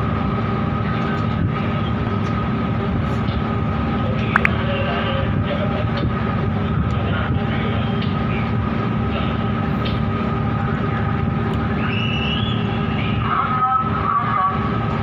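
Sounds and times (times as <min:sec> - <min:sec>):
diesel engines rumbling: 0:00.0 - 0:15.0.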